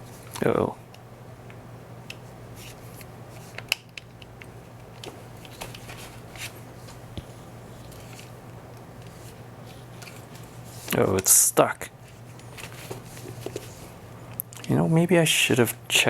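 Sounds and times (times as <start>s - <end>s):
clicks and rustles of handling: 0.0s - 11.4s, 12.0s - 14.8s
steady low hum: 0.0s - 16.0s.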